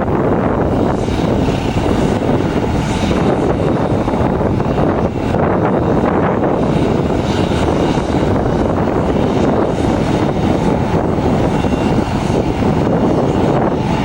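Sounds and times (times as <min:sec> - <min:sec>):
faint high engine whine: 0:00.0 - 0:14.0
jet engines roaring: 0:00.0 - 0:14.0.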